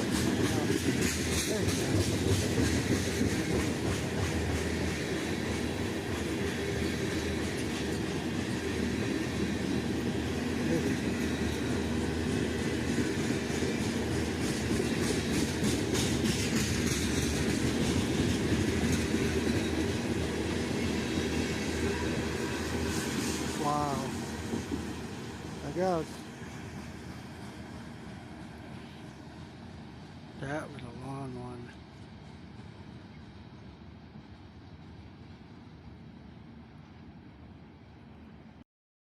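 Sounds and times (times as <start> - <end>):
wheels clickety-clack over rail joints: 0.0 - 35.4
train wheels rumbling on rail: 0.0 - 38.1.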